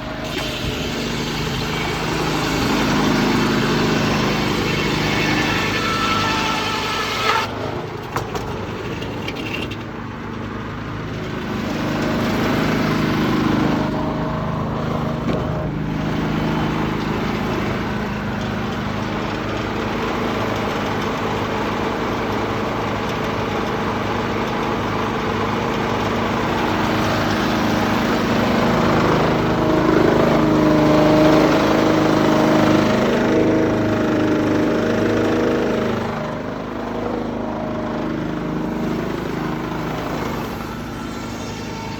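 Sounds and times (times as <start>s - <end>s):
muffled diesel engine droning: 0.0s - 41.9s.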